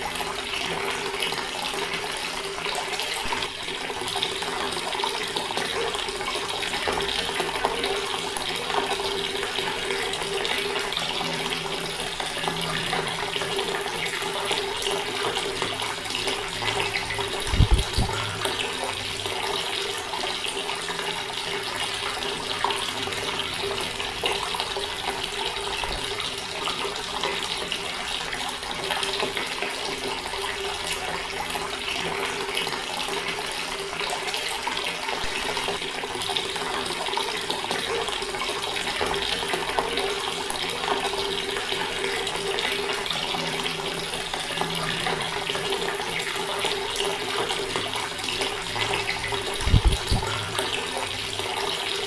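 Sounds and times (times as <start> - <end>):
water running from a tap: 0.0 - 52.0.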